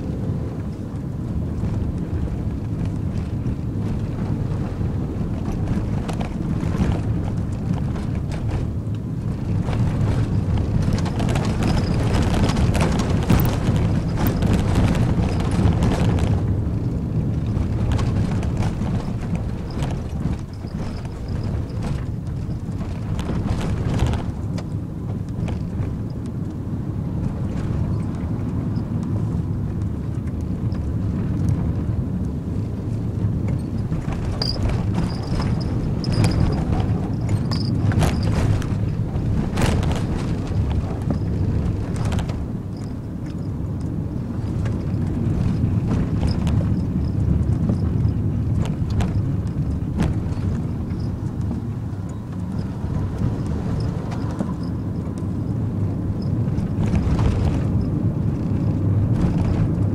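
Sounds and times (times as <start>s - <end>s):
engine and tyre rumble: 0.0s - 59.9s
knocks and rattles: 1.6s - 26.1s, 33.2s - 59.9s.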